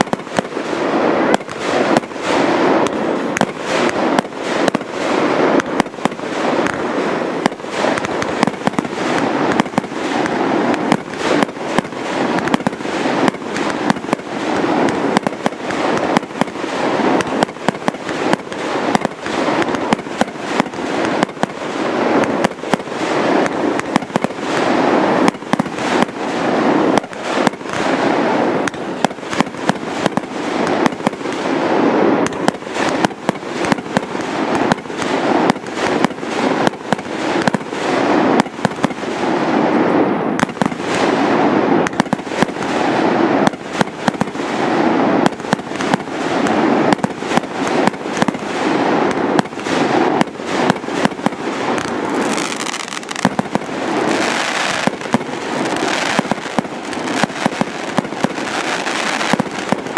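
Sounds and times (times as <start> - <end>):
fireworks bangs: 0.0 - 59.9
fireworks crackling rush: 0.0 - 59.9.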